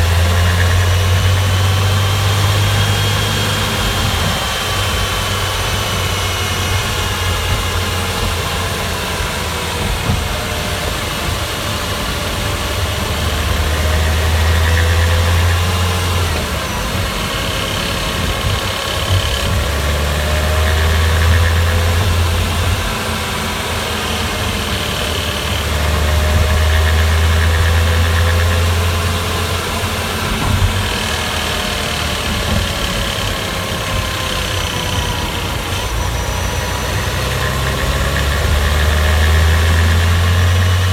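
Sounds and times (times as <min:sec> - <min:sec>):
car engine revving while driving: 0:00.0 - 0:40.9.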